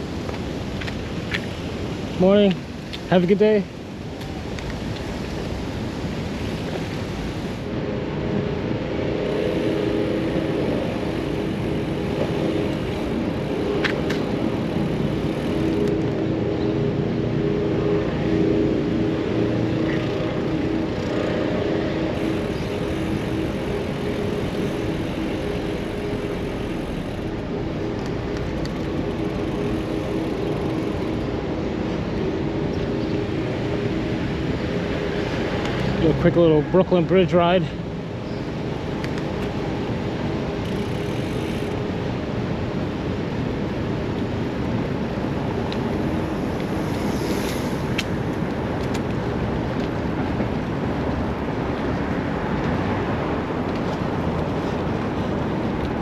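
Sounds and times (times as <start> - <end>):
bike tyre noise: 0.0 - 56.0
motor traffic: 0.0 - 56.0
wind rush: 0.0 - 56.0.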